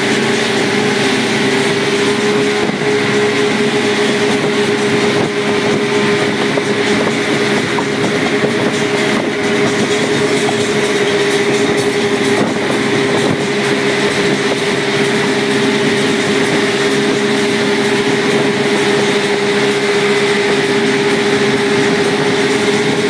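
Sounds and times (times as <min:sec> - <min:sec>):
rush of wake and spray: 0:00.0 - 0:23.0
speedboat engine running: 0:00.0 - 0:23.0.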